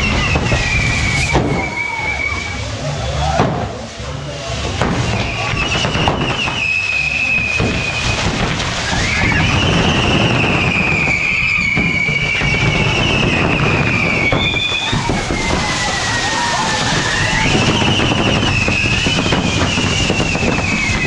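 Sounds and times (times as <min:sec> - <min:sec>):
sharp firework pops: 0:00.0 - 0:01.9, 0:03.4 - 0:03.8, 0:04.7 - 0:21.0
firework hiss and crackle: 0:00.0 - 0:21.0
high firework whistle: 0:00.0 - 0:21.0
swooping firework whistle: 0:00.0 - 0:21.0.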